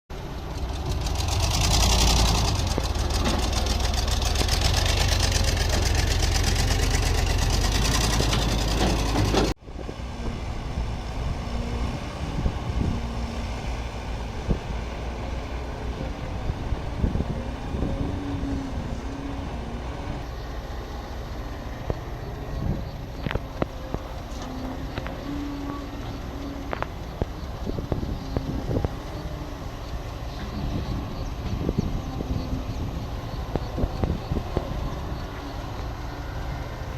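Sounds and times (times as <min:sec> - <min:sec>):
quieter engine sound: 0:00.1 - 0:36.9
excavator diesel engine running: 0:00.2 - 0:36.9.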